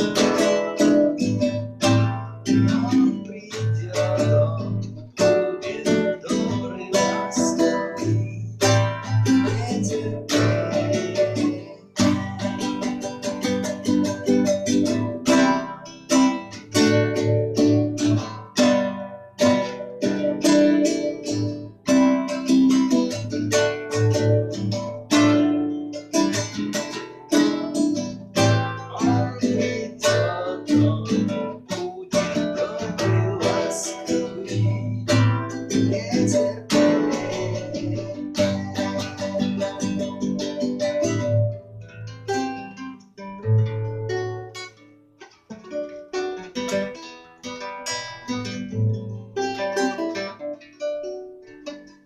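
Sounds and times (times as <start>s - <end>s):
guitar plucked and strummed chords: 0.0s - 52.0s.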